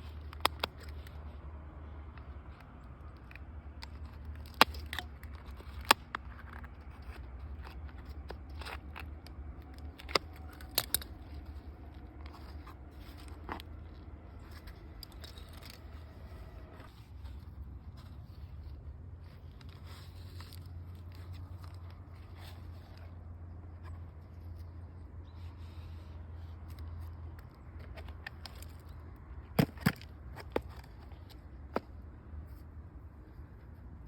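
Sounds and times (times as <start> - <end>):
soil scraping and rustling: 0.0 - 34.0.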